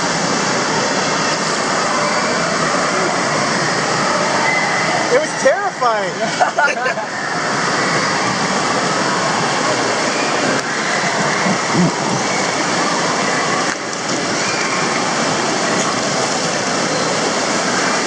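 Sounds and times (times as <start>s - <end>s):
water rushing down a slide: 0.0s - 18.0s.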